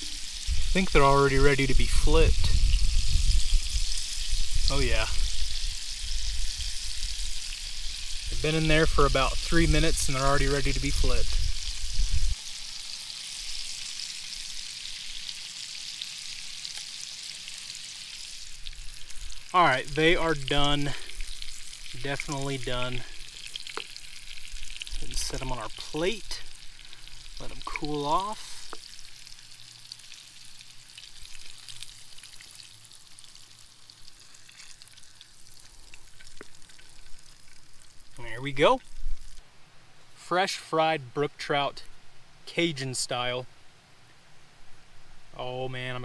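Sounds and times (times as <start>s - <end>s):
fish deep-frying in oil: 0.0s - 39.4s.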